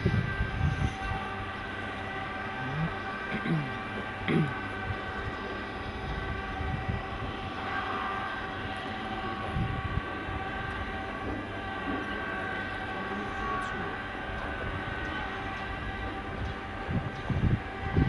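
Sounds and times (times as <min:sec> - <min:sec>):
distant diesel locomotive engine drone: 0:00.0 - 0:18.0.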